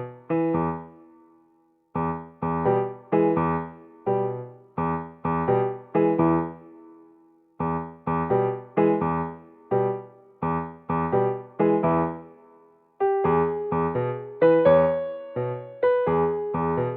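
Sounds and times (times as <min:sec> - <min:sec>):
electric piano chords: 0:02.0 - 0:06.9, 0:07.6 - 0:16.9.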